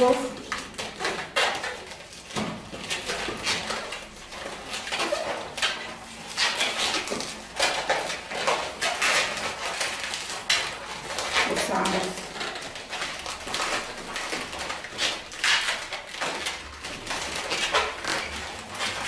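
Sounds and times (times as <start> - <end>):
balloons squeaking and rubbing: 0.0 - 19.0.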